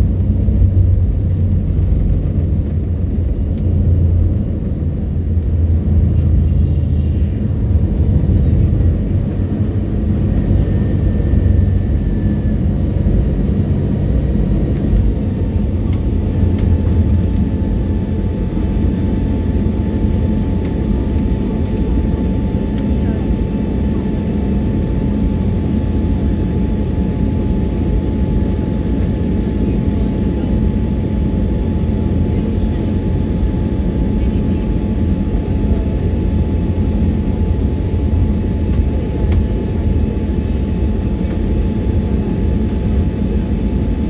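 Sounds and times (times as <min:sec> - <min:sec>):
airplane cabin engine noise: 0:00.0 - 0:44.0.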